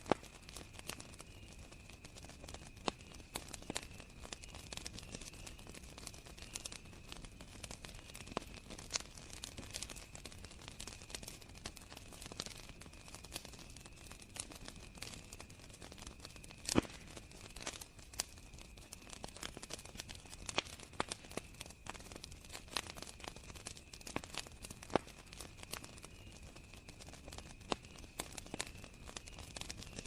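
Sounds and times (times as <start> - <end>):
crickets trilling: 0.0 - 30.0
wood fire crackling: 0.0 - 30.0.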